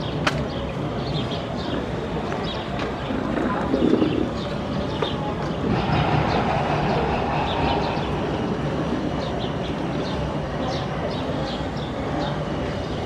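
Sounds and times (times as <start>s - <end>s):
crowd murmur: 0.0s - 13.0s.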